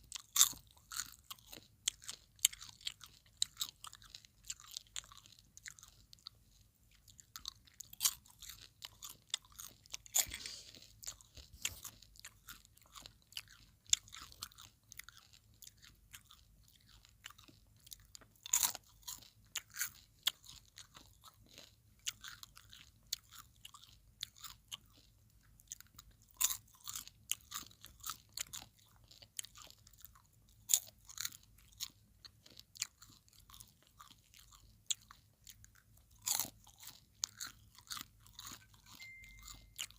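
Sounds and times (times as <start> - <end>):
popcorn being chewed: 0.0 - 39.9.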